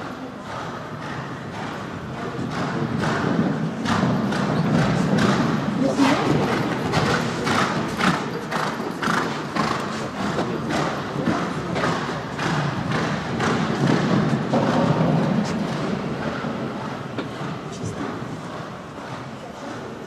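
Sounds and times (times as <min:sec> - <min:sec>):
horse hoofbeats thudding: 0:00.4 - 0:20.0.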